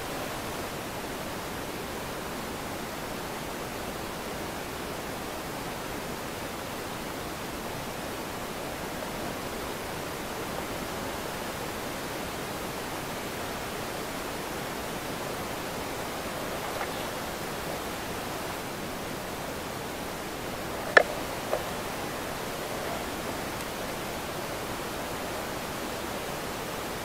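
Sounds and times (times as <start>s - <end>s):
steady hiss-like noise: 0.0s - 27.0s.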